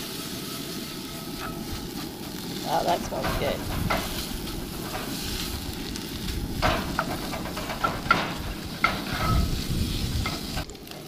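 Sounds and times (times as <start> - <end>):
spatula scraping a pan: 0.0 - 10.7
food sizzling in a skillet: 0.0 - 11.0.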